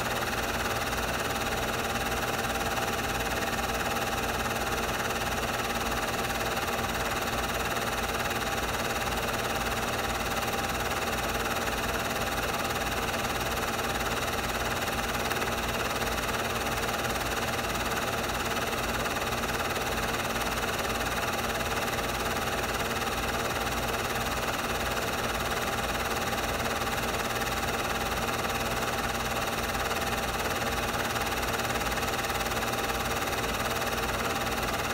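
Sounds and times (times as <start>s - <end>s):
film projector whirring: 0.0s - 34.9s.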